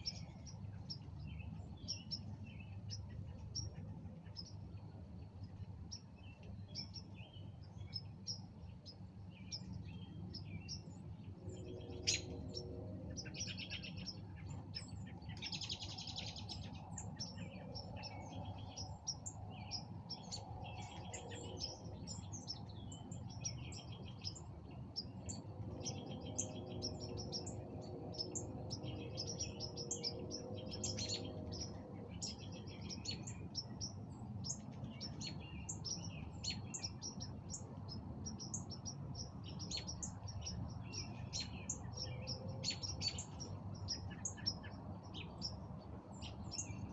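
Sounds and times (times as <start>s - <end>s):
birds chirping and trilling: 0.0s - 46.9s
low background hum: 0.0s - 46.9s.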